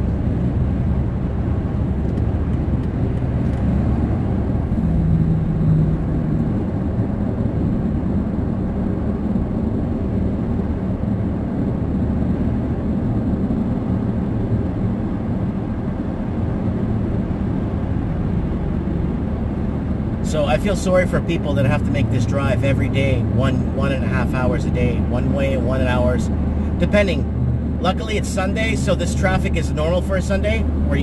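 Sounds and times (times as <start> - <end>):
car engine and road rumble: 0.0 - 31.0
low hum: 0.0 - 31.0.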